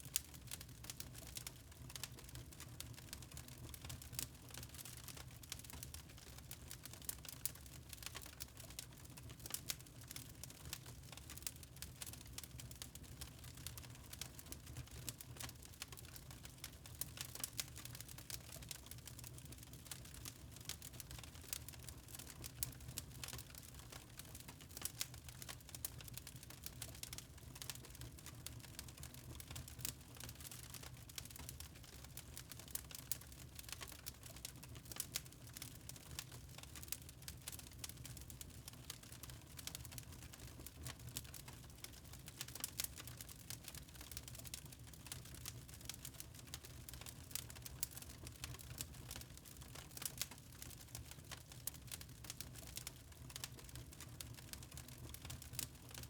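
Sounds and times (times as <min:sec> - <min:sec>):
low steady rumble of fire: 0:00.0 - 0:56.0
fire crackling and popping: 0:00.1 - 0:56.0.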